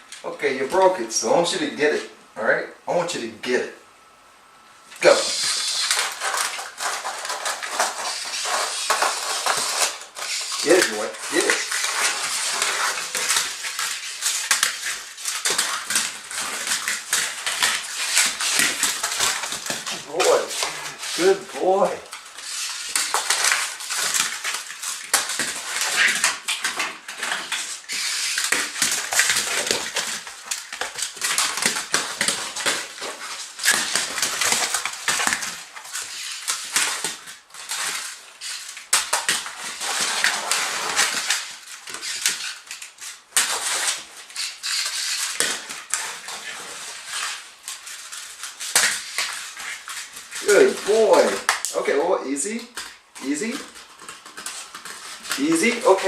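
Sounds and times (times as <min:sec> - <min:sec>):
crinkling and crunching: 0:05.0 - 0:56.0.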